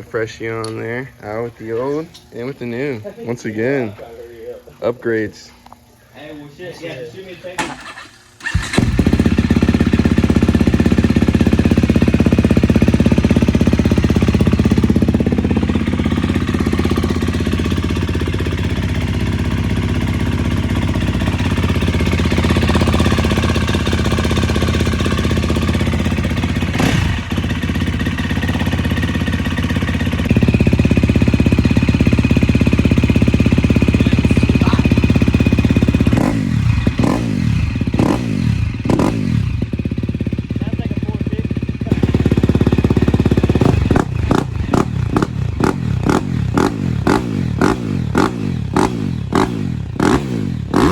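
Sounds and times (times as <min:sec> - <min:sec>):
motorcycle engine revving: 0:07.7 - 0:50.9.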